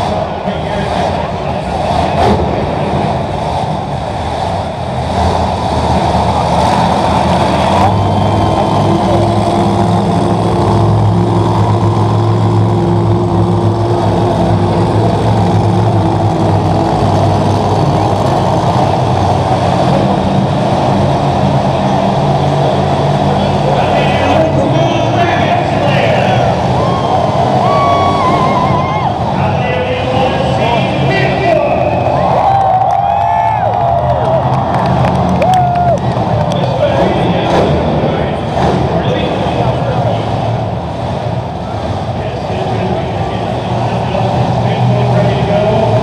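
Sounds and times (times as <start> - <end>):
monster truck engine running loud: 0.0 - 46.0.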